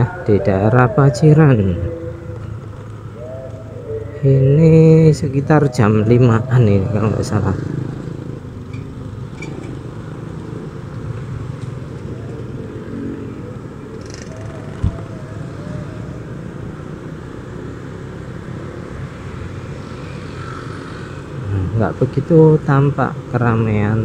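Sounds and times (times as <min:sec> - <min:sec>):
scooter engine and road rumble: 0:00.0 - 0:24.0.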